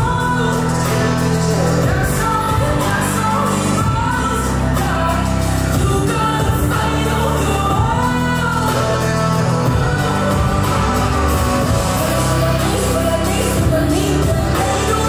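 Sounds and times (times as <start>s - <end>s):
loud dance music with singing: 0.0s - 15.0s.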